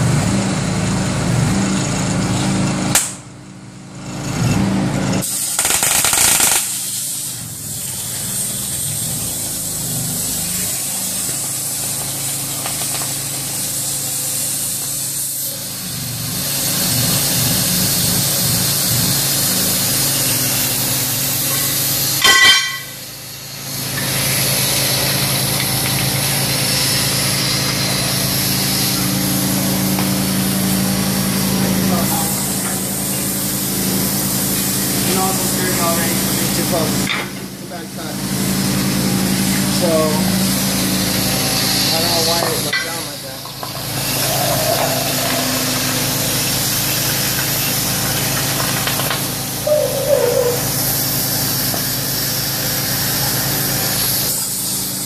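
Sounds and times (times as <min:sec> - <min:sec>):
cutting torch hiss and hum: 0:05.2 - 0:55.0.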